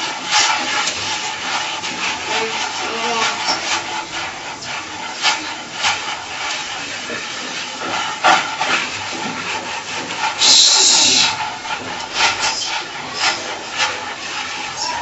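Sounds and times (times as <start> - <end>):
hands rubbing gritty grains: 0.0 - 15.0.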